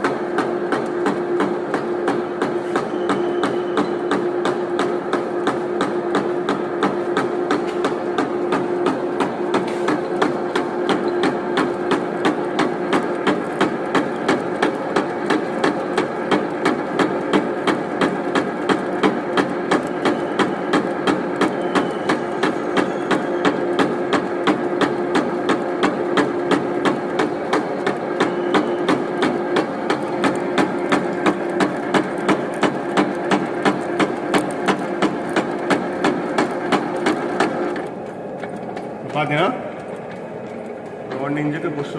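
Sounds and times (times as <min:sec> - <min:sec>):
lathe machine hum: 0:00.0 - 0:41.9.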